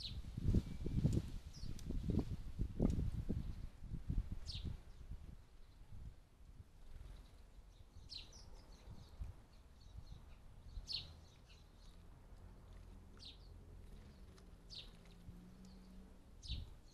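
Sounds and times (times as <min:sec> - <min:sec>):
sparrows chirping: 0:00.0 - 0:06.0, 0:06.6 - 0:16.9.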